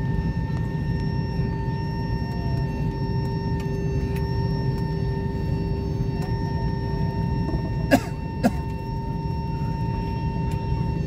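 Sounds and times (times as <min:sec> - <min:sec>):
airliner cabin rumble: 0:00.0 - 0:11.0
steady whine: 0:00.0 - 0:11.0.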